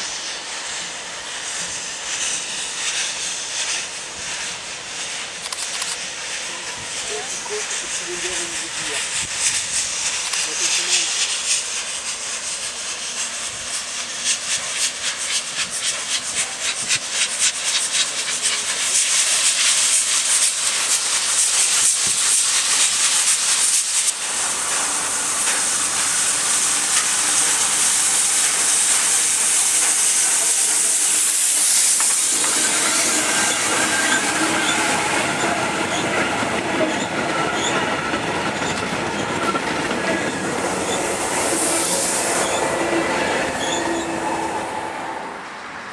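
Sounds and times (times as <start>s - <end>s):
strong hiss: 0.0s - 45.9s
train rumble: 0.0s - 45.9s
train wheels clattering on rails: 6.7s - 44.5s.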